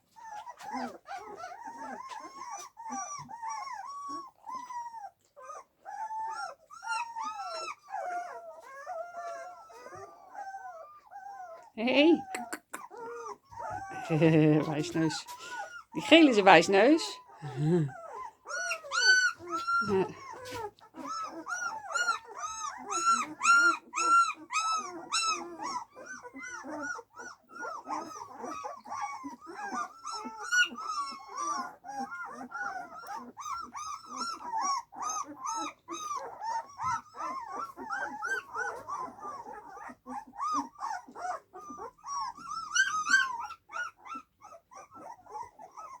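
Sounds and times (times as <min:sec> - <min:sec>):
puppies whimpering and squealing: 0:00.0 - 0:46.0.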